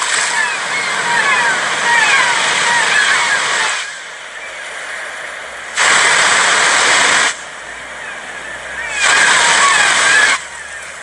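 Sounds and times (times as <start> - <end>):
birds chirping: 0.0 - 11.0
surf washing on a beach: 0.0 - 11.0.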